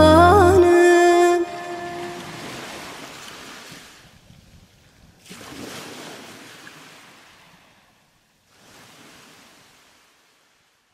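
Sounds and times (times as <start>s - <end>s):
sea waves washing on shore: 0.9s - 4.4s, 5.2s - 10.8s.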